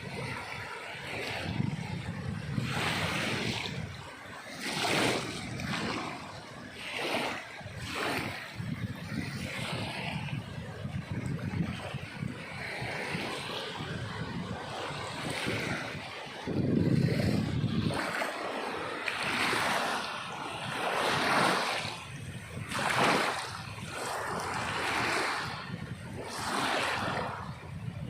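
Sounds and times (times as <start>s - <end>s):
sea waves surging: 0.0s - 28.0s.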